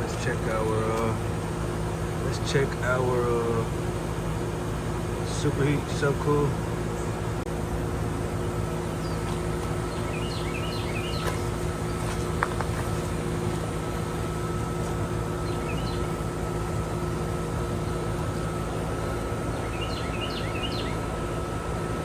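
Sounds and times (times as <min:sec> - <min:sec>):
air conditioner unit humming: 0:00.0 - 0:22.0
birds chirping: 0:00.0 - 0:22.0.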